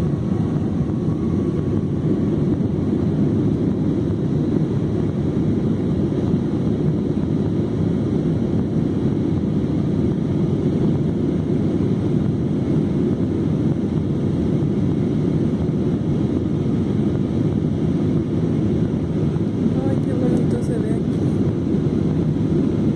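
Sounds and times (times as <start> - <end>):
jet airliner cabin noise: 0.0 - 22.9.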